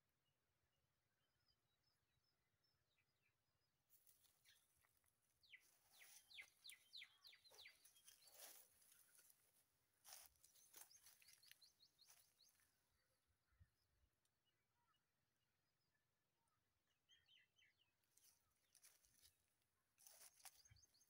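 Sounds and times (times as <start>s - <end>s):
small birds chirping: 1.8s - 15.0s, 17.0s - 21.0s.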